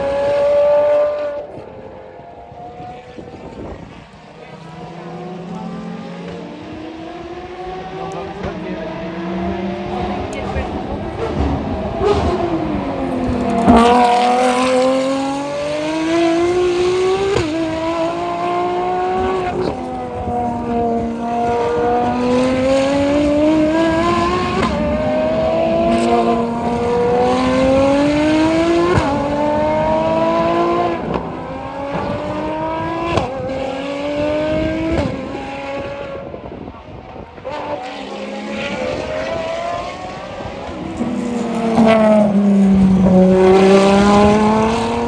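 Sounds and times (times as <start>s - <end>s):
racing engine accelerating: 0.0s - 45.0s.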